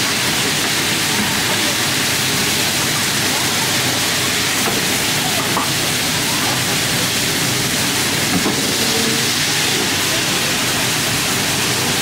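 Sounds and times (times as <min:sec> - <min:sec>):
dumplings sizzling in oil: 0:00.0 - 0:12.0.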